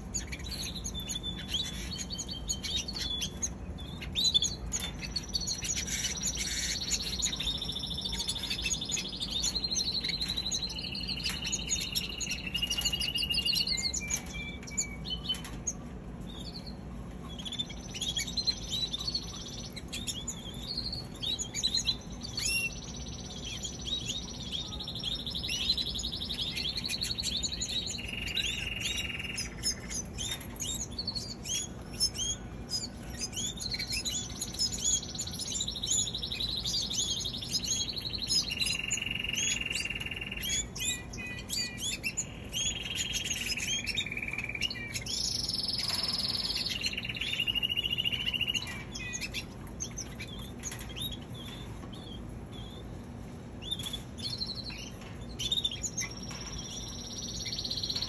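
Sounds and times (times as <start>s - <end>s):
canaries singing: 0.0s - 58.0s.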